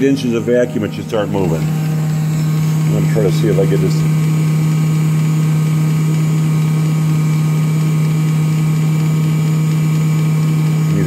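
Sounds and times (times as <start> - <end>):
tester motor humming: 0.0 - 11.0.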